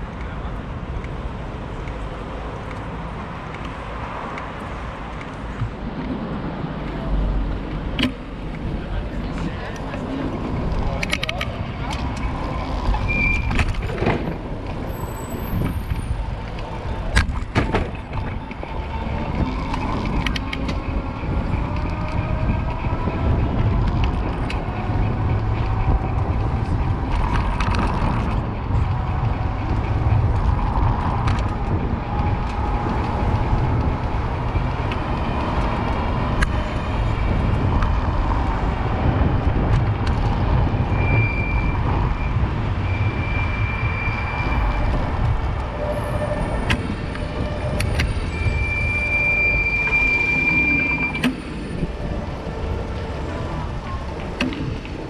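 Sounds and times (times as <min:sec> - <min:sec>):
passing motor vehicles: 0:00.0 - 0:55.0
road and wind noise: 0:00.0 - 0:55.0.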